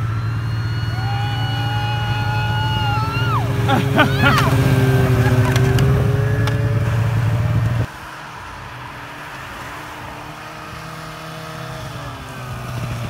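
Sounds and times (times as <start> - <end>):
distant snowmobile engine hum: 0.0 - 13.0
snowmobile engine running close: 0.0 - 13.0.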